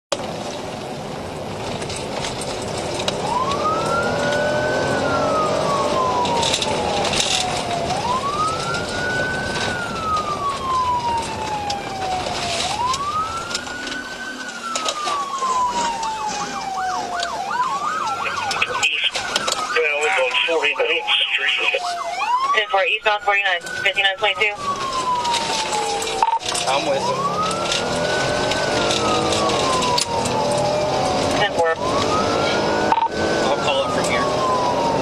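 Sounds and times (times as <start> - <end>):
car engine and road noise: 0.1 - 35.0
police siren wailing: 0.3 - 35.0
siren yelp: 3.0 - 35.0.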